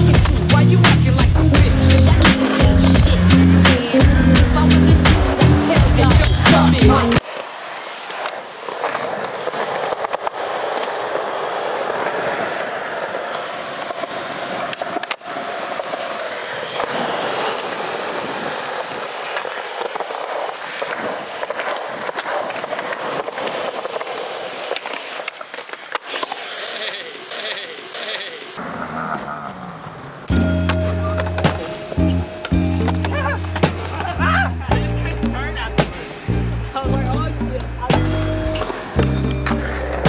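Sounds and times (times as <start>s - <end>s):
skateboard clacks: 0.0s - 28.6s, 30.3s - 40.0s
skateboard wheels rolling on concrete: 0.0s - 40.0s.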